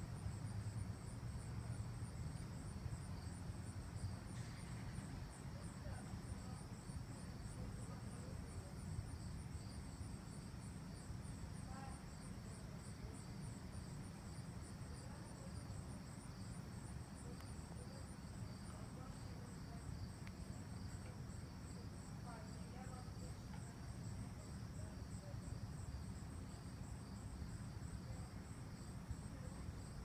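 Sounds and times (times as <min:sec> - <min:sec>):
insects chirping: 0:00.1 - 0:30.0.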